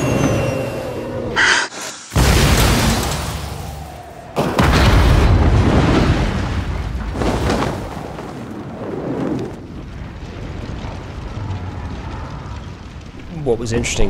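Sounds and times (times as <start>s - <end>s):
deep explosion boom: 2.2s - 13.9s
low rumble of burning wreck: 2.2s - 14.0s.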